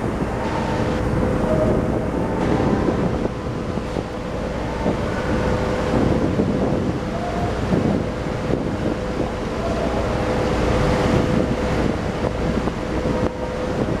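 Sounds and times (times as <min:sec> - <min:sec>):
boat machinery drone: 0:00.0 - 0:14.0
constant whine: 0:00.0 - 0:14.0
wind buffeting microphone: 0:00.0 - 0:14.0.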